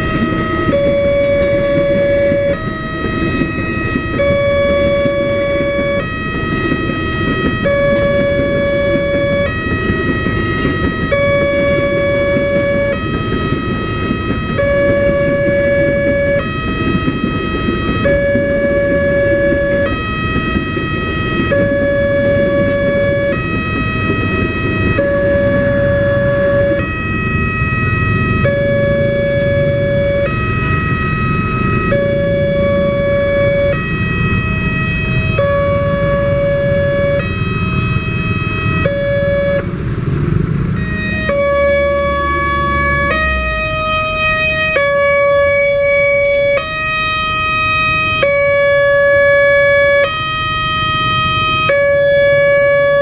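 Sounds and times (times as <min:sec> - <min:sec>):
two-tone warning siren: 0:00.0 - 0:53.0.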